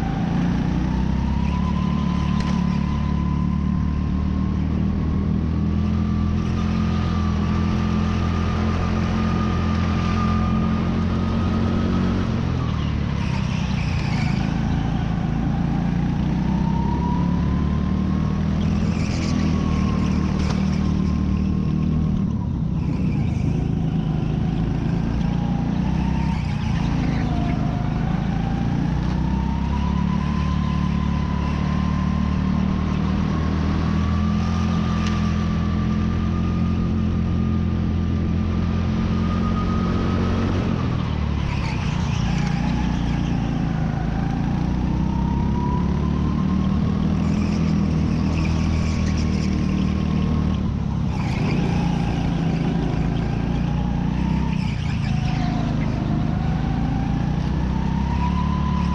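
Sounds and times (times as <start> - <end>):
go-kart engine revving: 0.0 - 58.9.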